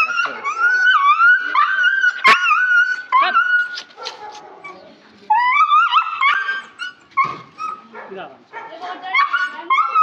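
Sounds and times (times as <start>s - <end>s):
dog whining and yelping: 0.0s - 7.9s, 9.1s - 10.0s.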